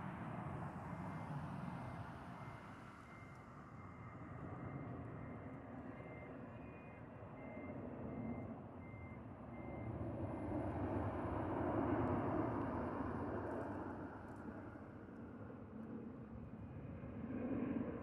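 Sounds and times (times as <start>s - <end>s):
jet airliner flying overhead: 0.0s - 18.0s.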